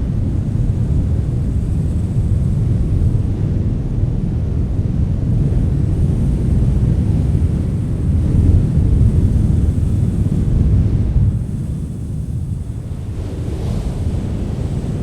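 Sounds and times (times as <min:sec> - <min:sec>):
strong wind rumbling: 0:00.0 - 0:15.0.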